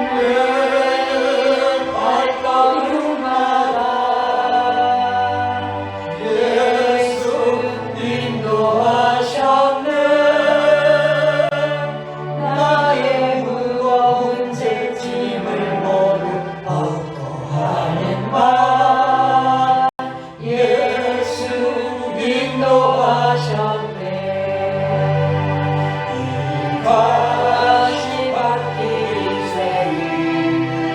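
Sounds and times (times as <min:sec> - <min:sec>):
choir singing a hymn: 0:00.0 - 0:30.9.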